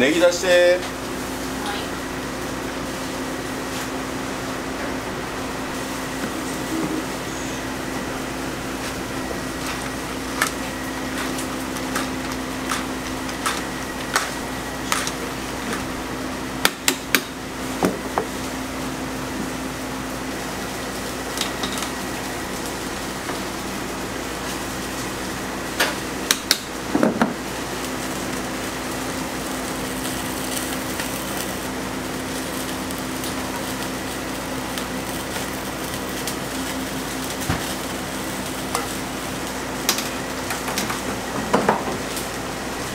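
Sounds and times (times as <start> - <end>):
kitchen burners humming: 0.0 - 42.9.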